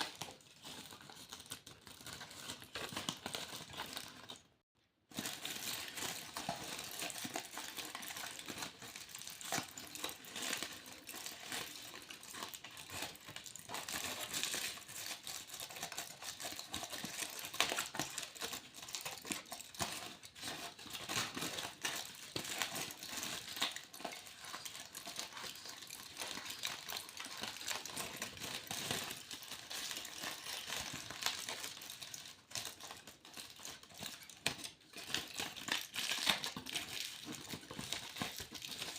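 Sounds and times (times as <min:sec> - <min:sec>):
aluminium foil crinkling: 0:05.1 - 0:38.9.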